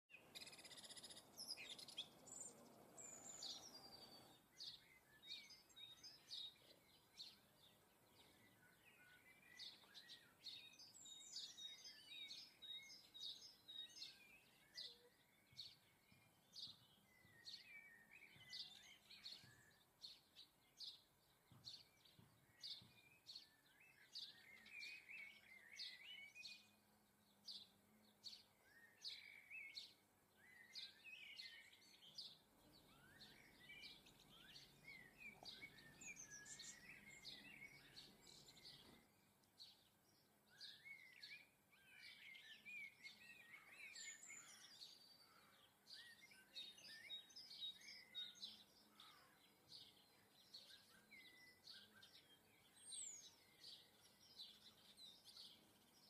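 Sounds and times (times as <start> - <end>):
songbirds chirping and twittering: 0.0 - 56.0.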